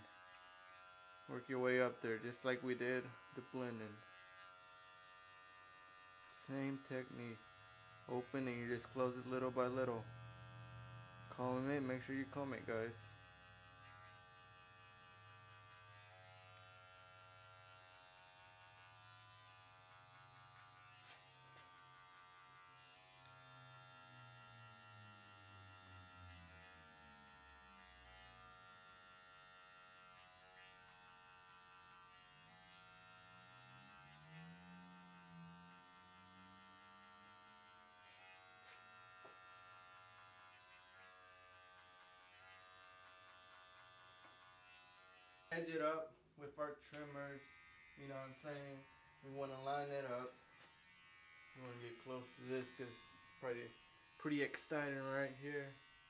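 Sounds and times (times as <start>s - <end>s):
electric hair clippers buzzing: 0.0s - 45.8s, 46.8s - 56.0s.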